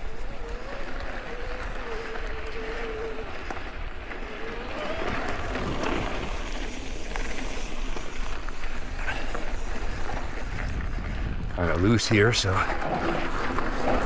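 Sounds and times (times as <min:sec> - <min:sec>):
bike rattling over bumps: 0:00.0 - 0:14.0
tyres crunching over gravel: 0:00.0 - 0:14.0.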